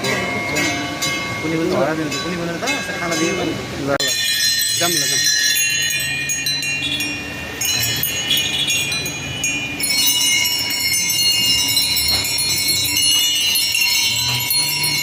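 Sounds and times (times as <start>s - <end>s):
metal bells ringing: 0.0s - 15.0s.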